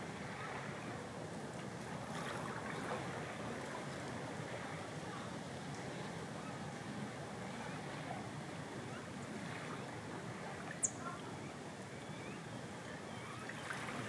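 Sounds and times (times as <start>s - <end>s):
gentle waves: 0.0s - 14.0s
wind: 0.0s - 14.0s.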